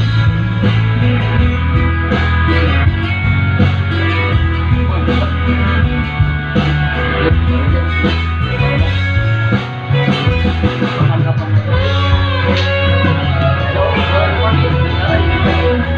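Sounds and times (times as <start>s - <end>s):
lead guitar: 0.0s - 15.9s
pop-rock band instrumental: 0.0s - 15.9s.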